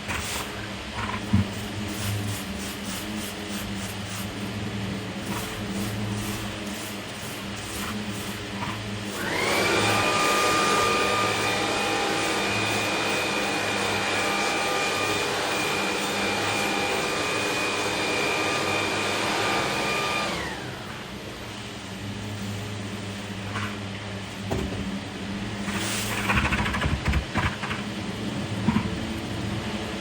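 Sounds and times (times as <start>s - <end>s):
electric fan motor whine: 0.0s - 30.0s.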